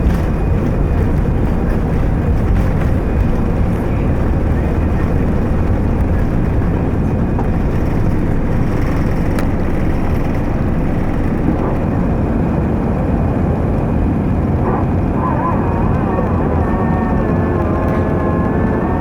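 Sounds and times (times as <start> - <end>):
jet engine rumble inside cabin: 0.0 - 19.0.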